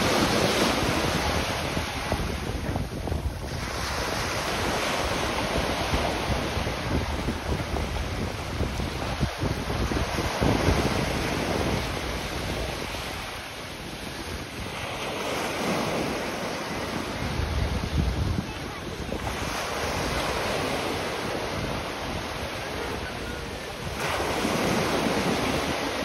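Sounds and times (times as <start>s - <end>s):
ocean surf washing: 0.0s - 26.0s
wave breaking: 0.0s - 26.0s
wind buffeting microphone: 0.0s - 26.0s.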